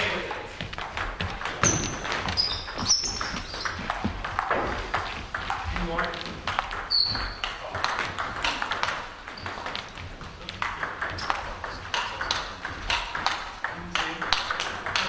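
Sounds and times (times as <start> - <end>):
table tennis ball clicking: 0.8 - 15.0.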